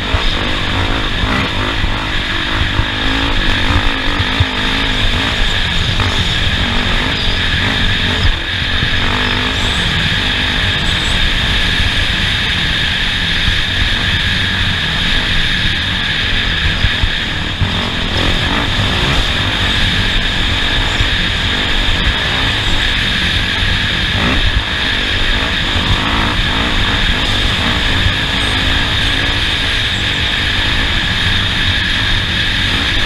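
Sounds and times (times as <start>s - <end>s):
race vehicle engine revving: 0.0s - 33.0s.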